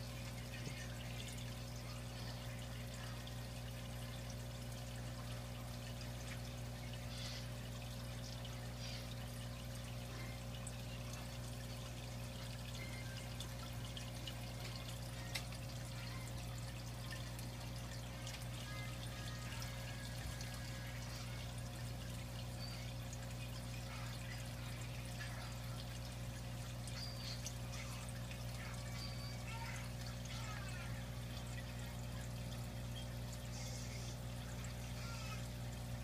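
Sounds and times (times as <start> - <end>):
low mechanical hum: 0.0 - 36.0
water trickling and splashing: 0.0 - 36.0.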